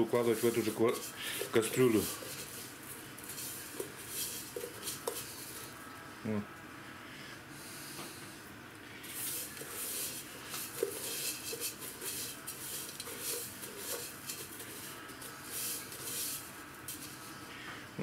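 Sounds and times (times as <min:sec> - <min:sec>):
salt coating scratchy rustles: 0:00.0 - 0:05.8, 0:09.0 - 0:17.6.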